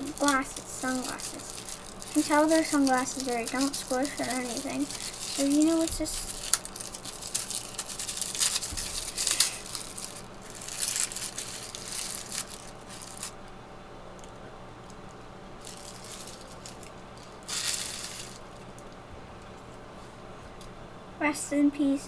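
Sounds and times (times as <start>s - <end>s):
paper crinkling and tearing: 0.0s - 13.5s, 15.0s - 19.6s.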